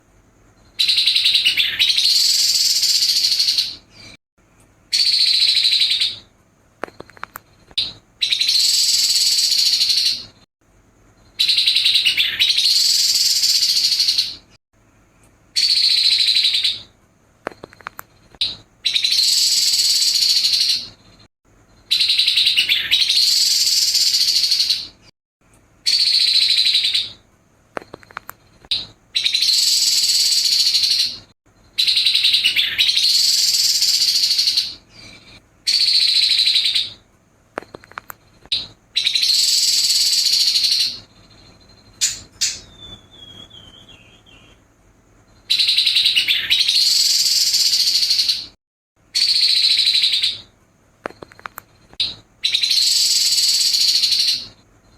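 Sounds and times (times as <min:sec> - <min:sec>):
bird singing harsh rapid phrases: 0:00.5 - 0:04.2, 0:04.9 - 0:06.3, 0:07.0 - 0:10.4, 0:11.1 - 0:14.6, 0:15.6 - 0:17.0, 0:17.6 - 0:25.1, 0:25.8 - 0:48.6, 0:49.2 - 0:50.5, 0:51.1 - 0:54.9.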